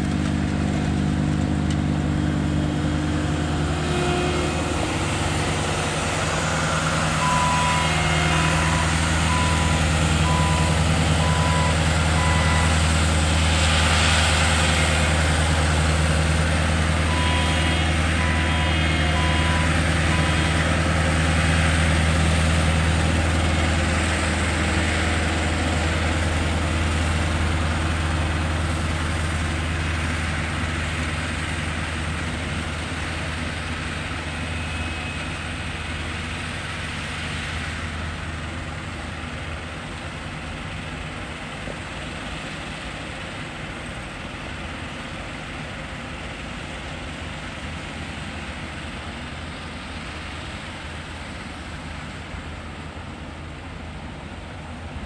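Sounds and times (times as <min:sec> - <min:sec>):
low engine hum: 0:00.0 - 0:55.0
snowblower rushing noise: 0:00.0 - 0:55.0.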